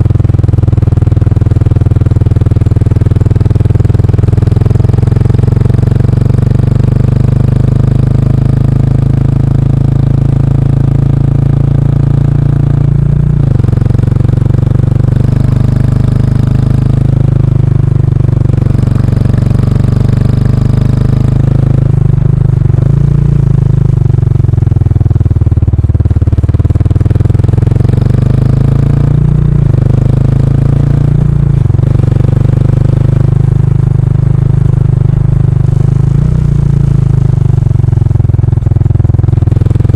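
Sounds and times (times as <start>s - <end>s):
single-cylinder motorcycle engine running: 0.0s - 39.9s.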